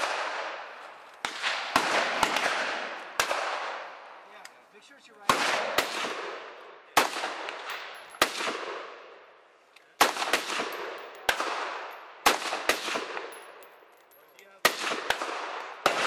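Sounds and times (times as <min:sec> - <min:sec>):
rifle shots echoing: 0:00.0 - 0:04.2, 0:05.2 - 0:09.4, 0:10.0 - 0:13.9, 0:14.5 - 0:16.0.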